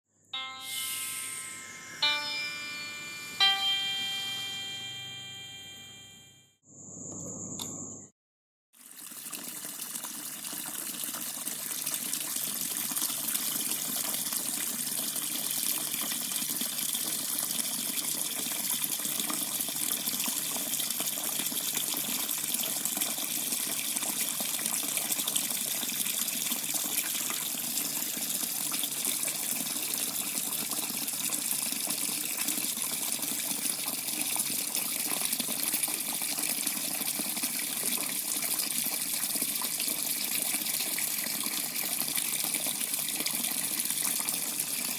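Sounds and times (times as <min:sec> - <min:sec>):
water running from a tap: 0:08.8 - 0:44.9.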